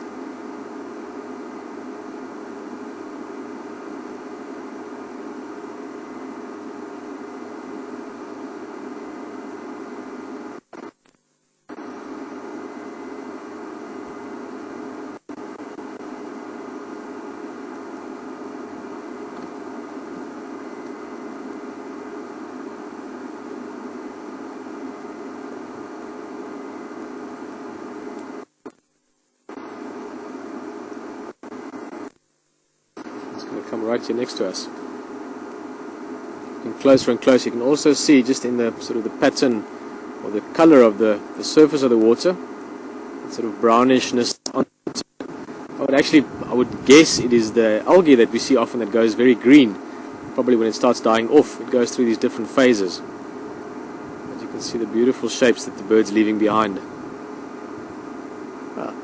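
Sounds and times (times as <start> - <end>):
static hiss and hum: 0.0 - 59.0.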